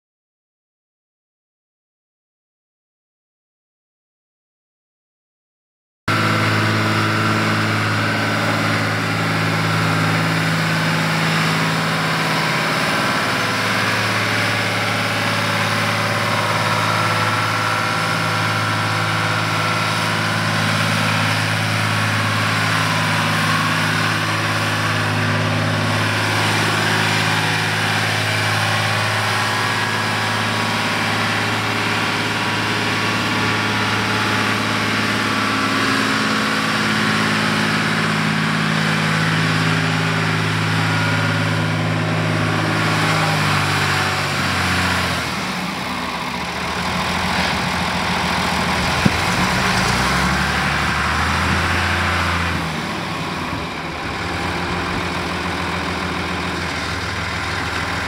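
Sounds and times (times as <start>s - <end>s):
tractor diesel engine running: 6.1s - 58.0s.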